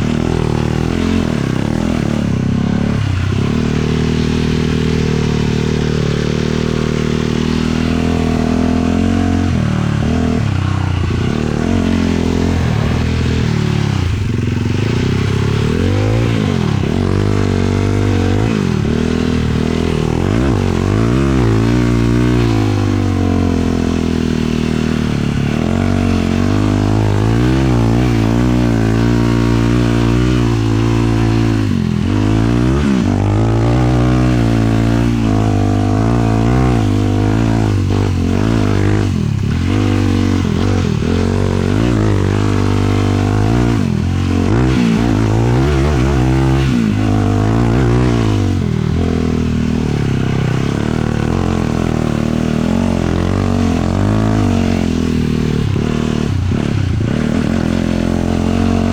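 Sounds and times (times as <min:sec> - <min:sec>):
quad engine revving: 0:00.0 - 0:58.9.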